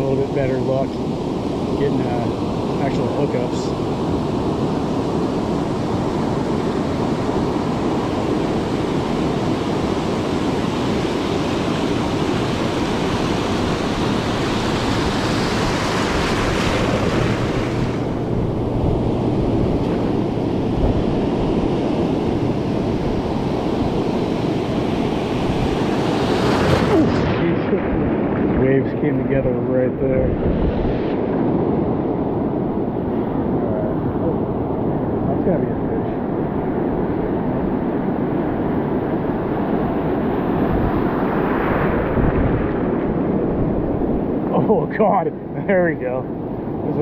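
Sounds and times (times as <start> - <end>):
wind on microphone: 0.0 - 44.6
surf washing and breaking: 0.0 - 47.0.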